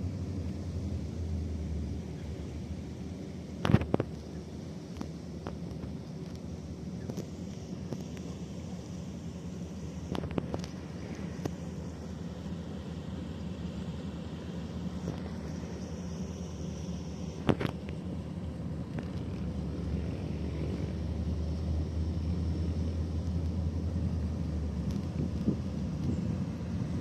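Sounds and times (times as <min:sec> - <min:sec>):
boat engine low rumble: 0:00.0 - 0:27.0.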